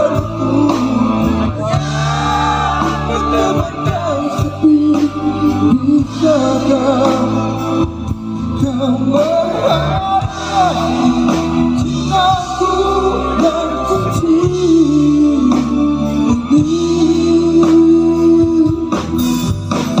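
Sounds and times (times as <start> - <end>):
live rock band playing: 0.0 - 20.0
male lead vocal: 0.0 - 20.0.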